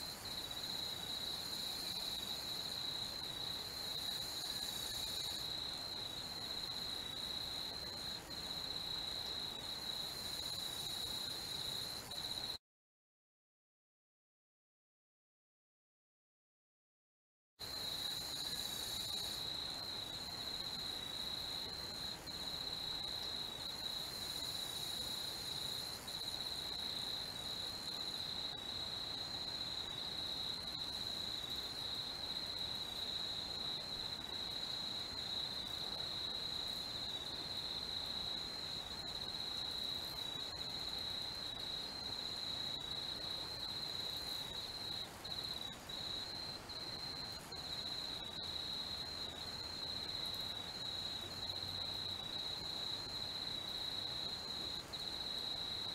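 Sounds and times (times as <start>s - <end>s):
crickets chirping: 0.0s - 12.6s, 17.6s - 55.9s.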